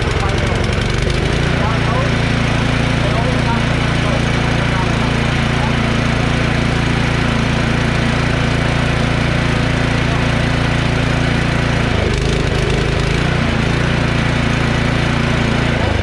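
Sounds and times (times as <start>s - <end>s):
snow blower engine running: 0.0s - 16.0s.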